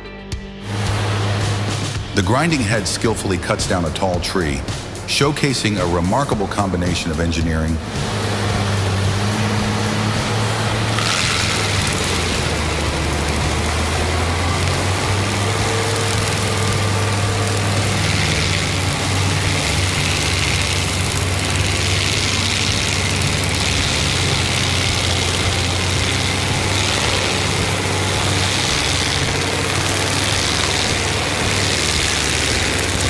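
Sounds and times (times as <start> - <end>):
heavy engine droning: 0.6 - 33.0
hiss of wood shredding: 0.6 - 33.0.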